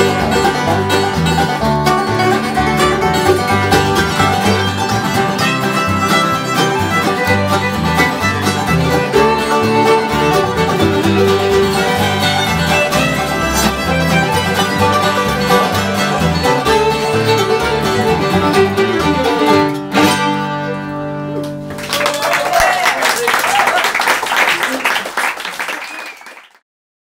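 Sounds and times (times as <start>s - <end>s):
bluegrass band playing: 0.0s - 22.0s.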